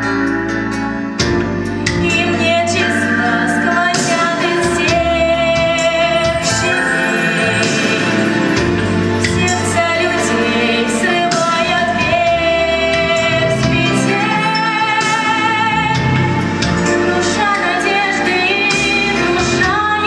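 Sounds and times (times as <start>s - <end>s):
instrumental backing track: 0.0s - 20.0s
woman singing: 2.0s - 20.0s.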